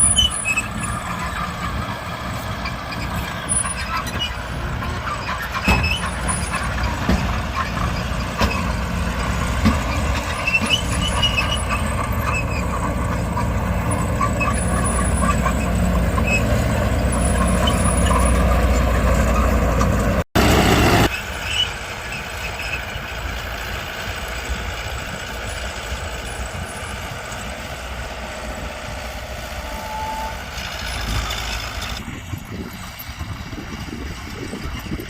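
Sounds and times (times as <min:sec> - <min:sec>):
diesel machinery engine: 0:00.0 - 0:35.0
rough quieter machine: 0:00.0 - 0:35.0.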